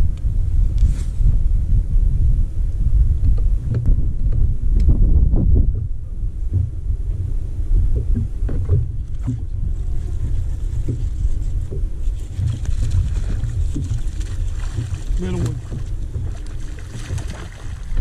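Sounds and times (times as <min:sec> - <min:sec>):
wind on microphone: 0:00.0 - 0:18.0
waves slapping against boat hull: 0:03.2 - 0:18.0.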